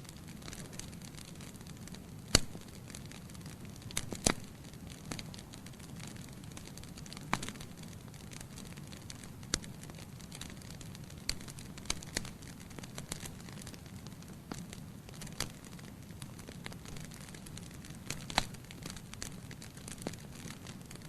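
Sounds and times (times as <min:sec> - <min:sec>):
fire flames rumbling: 0:00.0 - 0:21.0
logs crackling and popping: 0:00.0 - 0:21.0.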